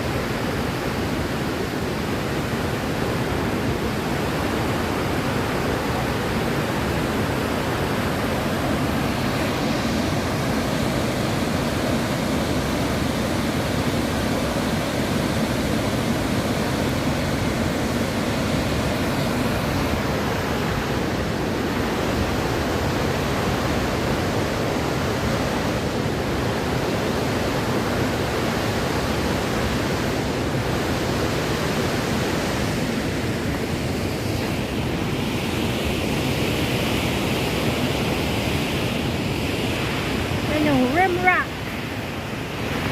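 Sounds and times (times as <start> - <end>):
waterfall rushing water: 0.0 - 42.9.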